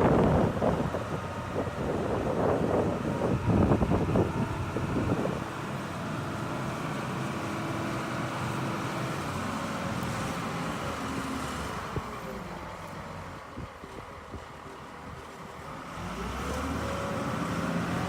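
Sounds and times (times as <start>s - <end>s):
excavator engine running: 0.0s - 18.0s.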